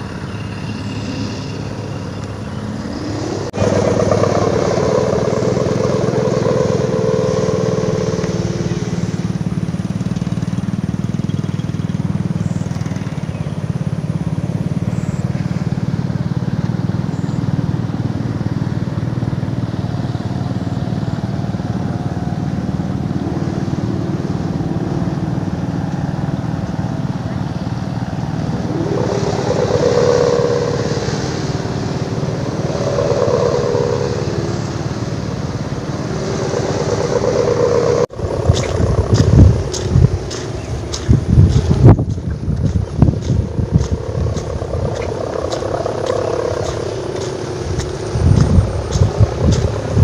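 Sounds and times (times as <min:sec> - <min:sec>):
wavering hum: 0:00.0 - 0:50.0
wind buffeting microphone: 0:00.0 - 0:50.0.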